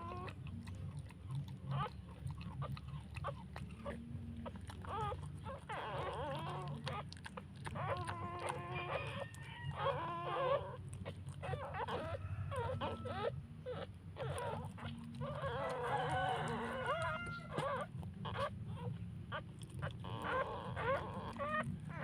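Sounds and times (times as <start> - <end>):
puppies squeaking and whining: 0.0 - 22.0
steady low hum: 0.0 - 22.0.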